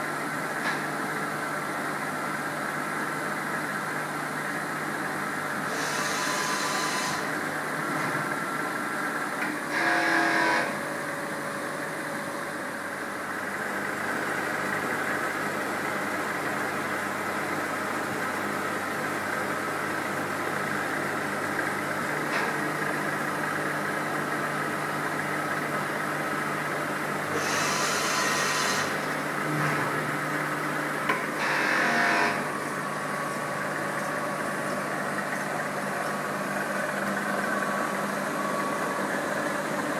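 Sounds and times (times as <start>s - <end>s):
milling machine humming at idle: 0.0s - 39.9s.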